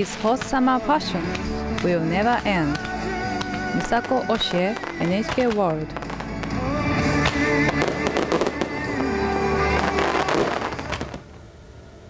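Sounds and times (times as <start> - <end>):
music: 0.0 - 11.3
fireworks bursting and crackling: 0.0 - 12.0.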